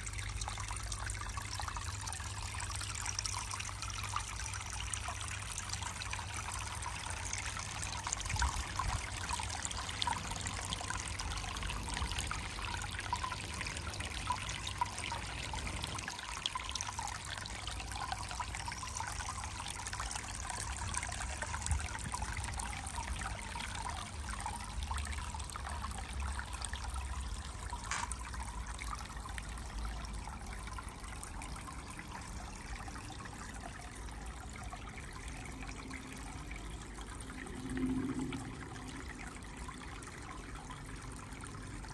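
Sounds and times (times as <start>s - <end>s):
water trickling over rocks: 0.0s - 41.9s.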